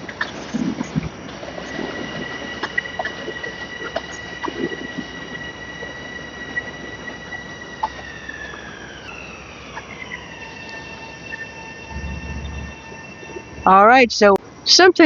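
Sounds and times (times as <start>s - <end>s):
train high whine: 0.0s - 14.8s
train rumble: 0.0s - 15.0s.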